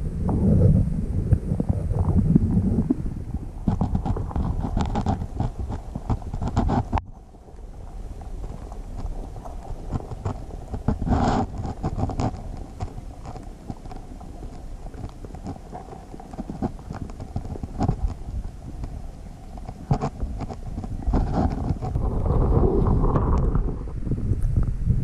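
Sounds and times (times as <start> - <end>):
underwater knocks and bumps: 0.2 - 24.8.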